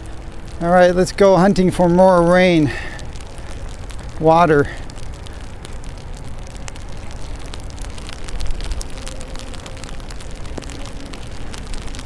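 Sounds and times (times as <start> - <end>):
raindrops ticking on microphone: 0.0 - 12.0
wet road noise: 0.0 - 12.0
wind rumble: 0.0 - 12.0.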